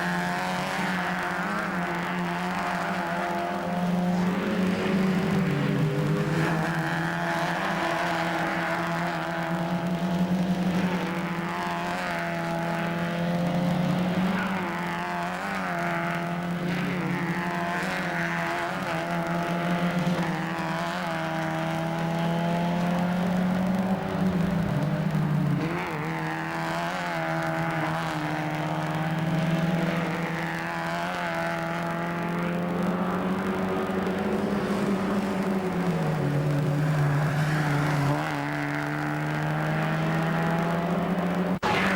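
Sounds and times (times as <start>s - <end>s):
race car engine revving hard: 0.0s - 41.9s.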